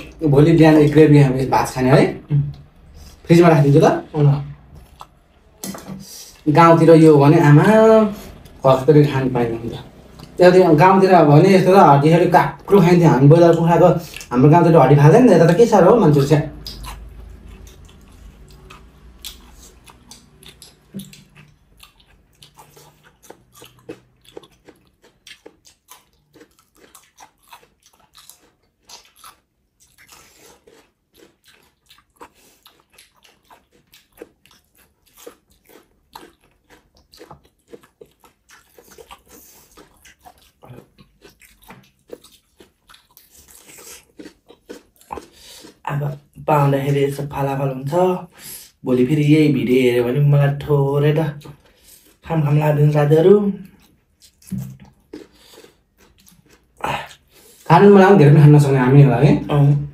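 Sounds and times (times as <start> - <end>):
person chewing crunchy food: 0.0 - 3.4, 4.0 - 10.8, 12.0 - 14.5, 15.5 - 47.2, 51.4 - 52.5, 53.2 - 57.7.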